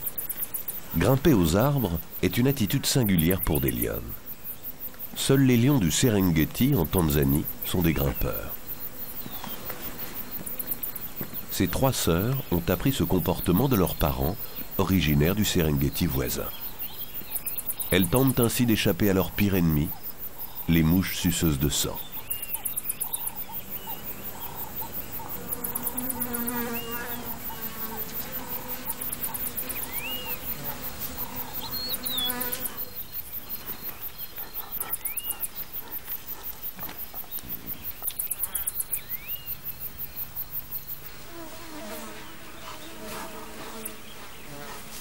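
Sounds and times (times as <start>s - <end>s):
flies buzzing: 0.0s - 45.0s
insects chirping and ticking: 0.0s - 45.0s.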